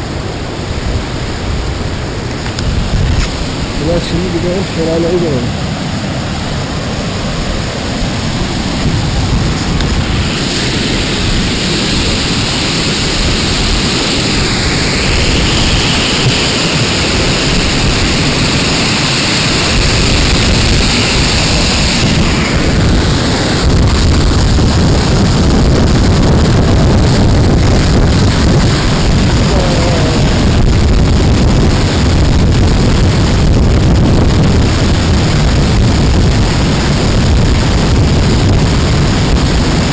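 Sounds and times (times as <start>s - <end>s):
waterfall rushing: 0.0s - 39.9s
wind rumbling on microphone: 0.0s - 39.9s.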